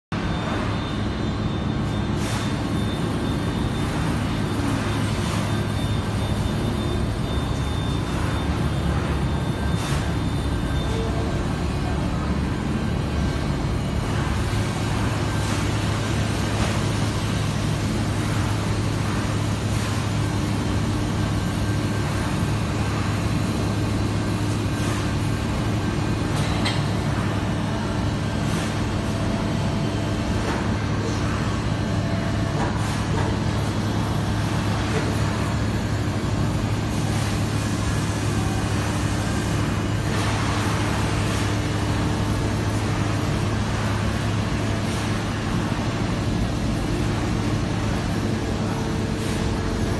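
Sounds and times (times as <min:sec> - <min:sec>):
constant high whine: 0:00.1 - 0:49.9
washing machine mechanical hum: 0:00.1 - 0:49.9.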